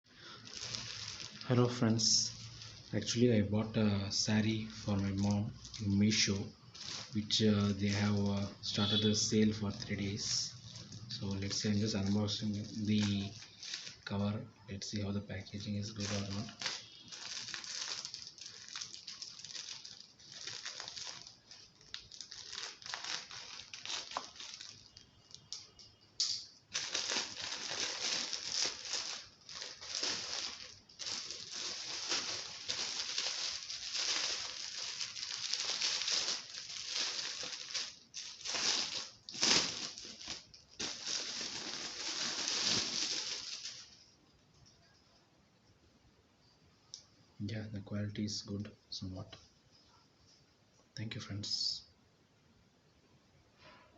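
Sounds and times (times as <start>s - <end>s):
plastic packaging crinkling: 0.1s - 44.1s.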